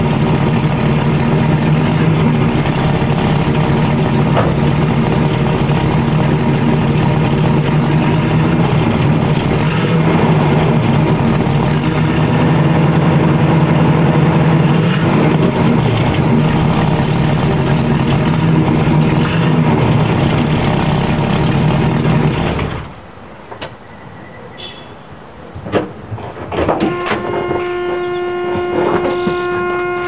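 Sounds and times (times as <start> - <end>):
car engine idling: 0.0 - 23.8, 25.0 - 30.0.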